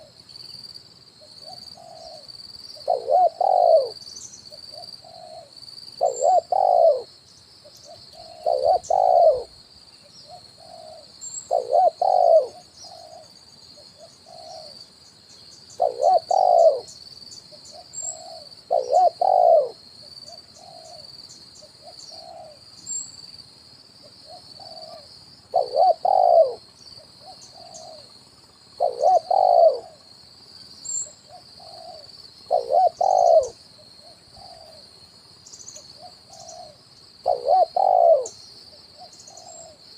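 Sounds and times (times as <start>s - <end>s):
dove cooing: 1.2s - 7.1s, 7.7s - 9.6s, 10.2s - 14.8s, 15.7s - 22.7s, 24.0s - 28.2s, 28.8s - 30.0s, 31.0s - 34.9s, 35.8s - 39.9s.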